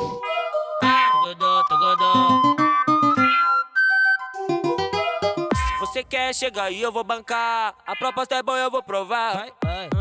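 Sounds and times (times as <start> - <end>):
reggaeton funk track with synth: 0.0 - 10.0.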